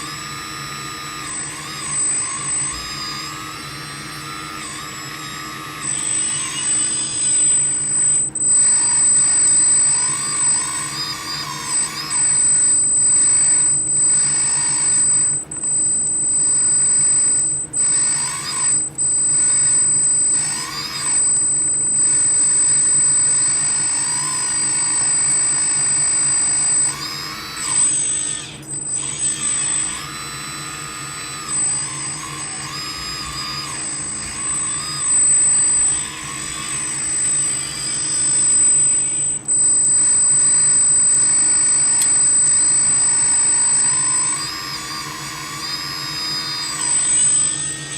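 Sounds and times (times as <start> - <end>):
electric motors and hydraulic pump: 0.0 - 47.9
high whine: 0.0 - 47.9.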